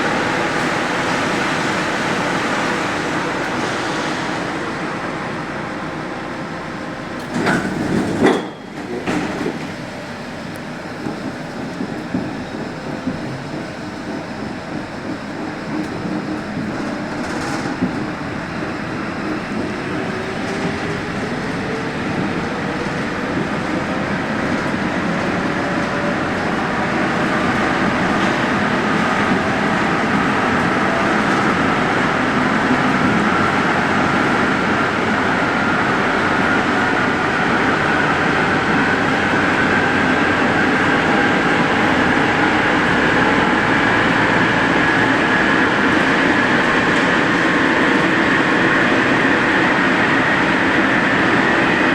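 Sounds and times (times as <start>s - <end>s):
metro train motor whine: 0.0s - 51.9s.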